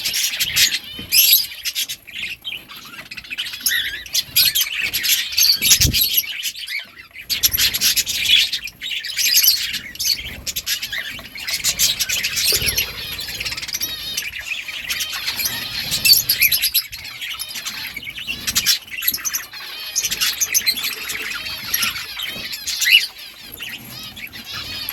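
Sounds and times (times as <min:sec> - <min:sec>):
budgerigars chirping: 0:00.0 - 0:24.9.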